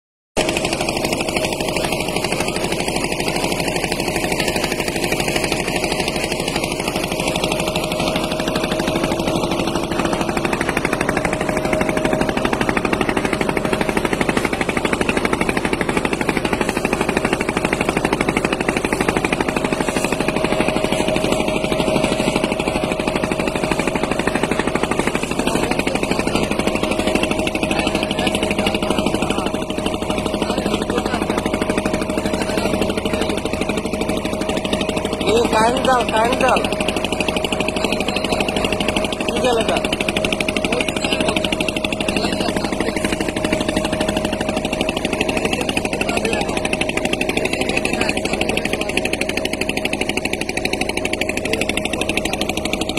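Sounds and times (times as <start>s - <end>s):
boat engine running: 0.4s - 52.9s.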